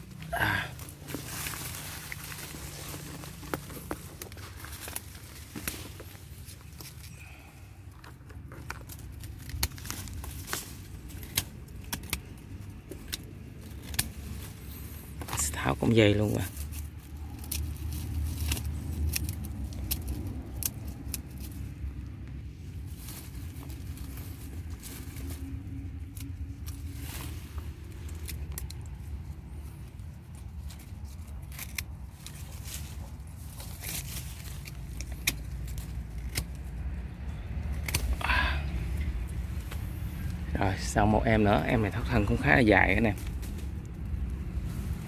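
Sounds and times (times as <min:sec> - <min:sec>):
branches snapping and rustling: 0:00.0 - 0:45.0
steady low rumble: 0:00.0 - 0:45.0.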